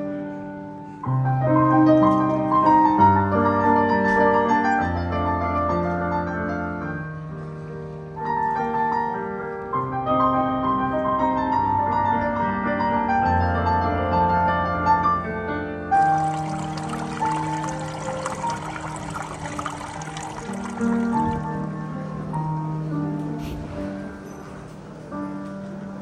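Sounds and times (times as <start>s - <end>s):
slow piano piece: 0.0s - 26.0s.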